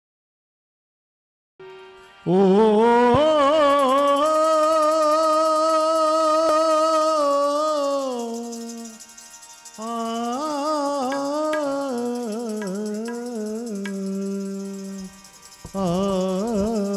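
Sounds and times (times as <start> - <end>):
man singing a long held note: 1.6 - 9.0, 9.8 - 16.9.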